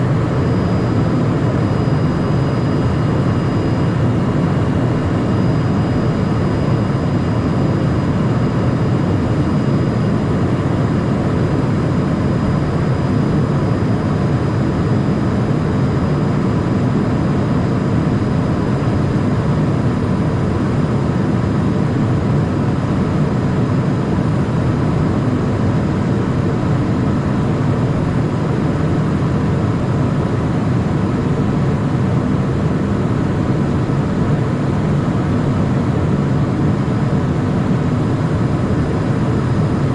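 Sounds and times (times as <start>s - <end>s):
faint high engine whine: 0.0s - 39.9s.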